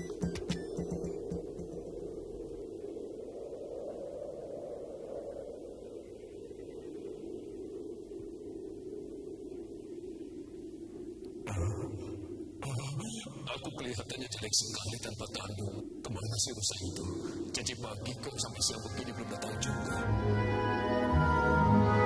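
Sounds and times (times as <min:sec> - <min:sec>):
steady low hum: 0:00.0 - 0:20.1.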